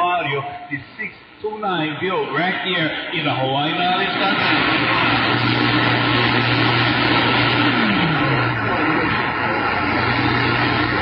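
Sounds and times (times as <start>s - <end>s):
low hum: 0.0s - 11.0s
radio static hiss: 0.0s - 11.0s.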